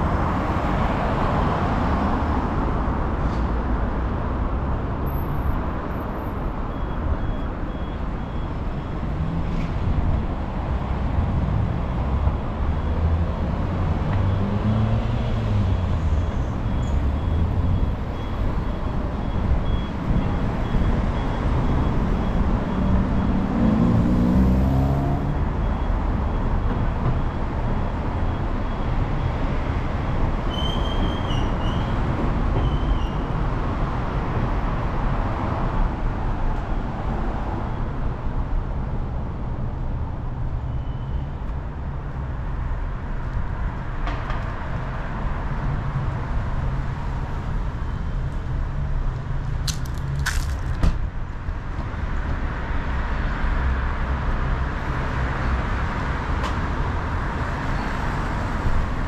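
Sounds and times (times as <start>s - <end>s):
rumble of cars: 0.0s - 59.0s.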